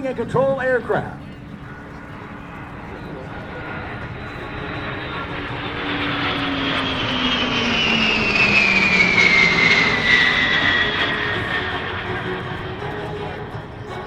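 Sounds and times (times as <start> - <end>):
jet engines flyby: 0.0 - 14.0.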